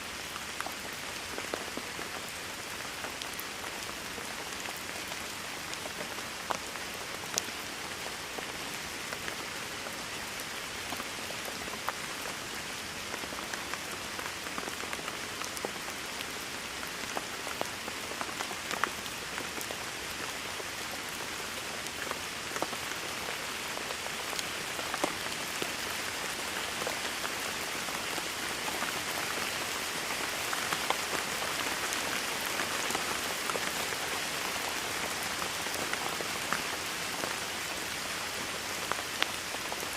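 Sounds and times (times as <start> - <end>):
rain on a hard surface: 0.0 - 39.9
raindrops ticking and splashing: 0.0 - 39.9.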